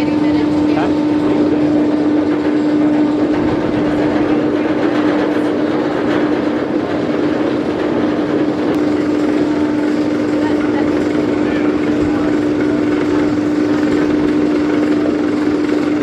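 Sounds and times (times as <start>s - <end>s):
ride machinery humming: 0.0s - 16.0s
roller coaster rumbling rush: 0.0s - 16.0s.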